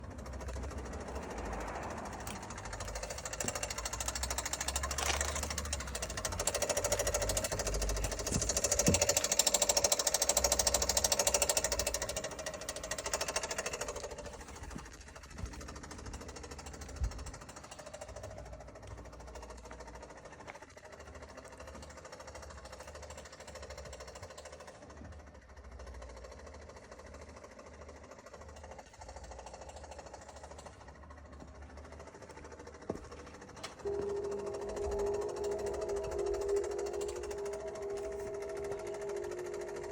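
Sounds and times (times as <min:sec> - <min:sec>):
car engine ticking: 0:00.0 - 0:39.9.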